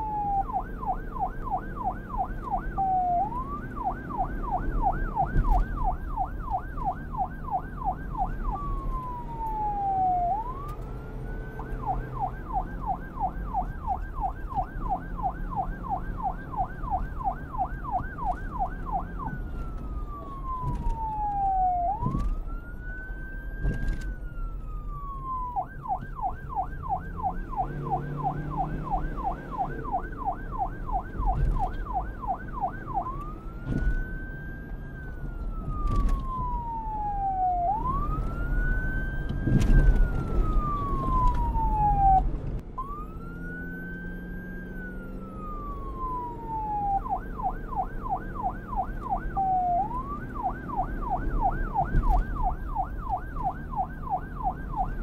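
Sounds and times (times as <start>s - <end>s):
low vehicle rumble: 0.0s - 55.0s
police car siren: 0.0s - 55.0s.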